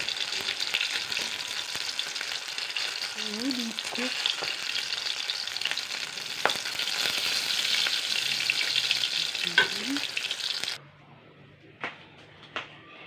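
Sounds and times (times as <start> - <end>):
burger sizzling in a pan: 0.0 - 10.8.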